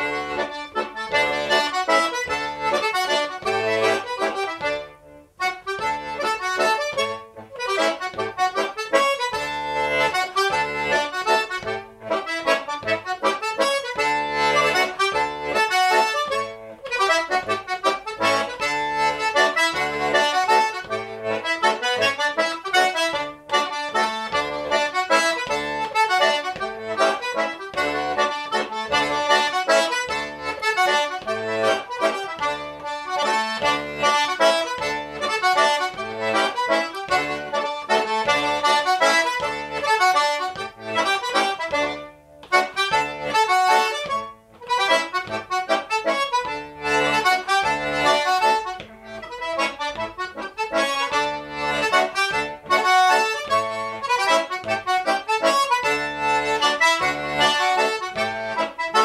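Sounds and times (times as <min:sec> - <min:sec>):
button accordion playing: 0:00.0 - 0:59.0.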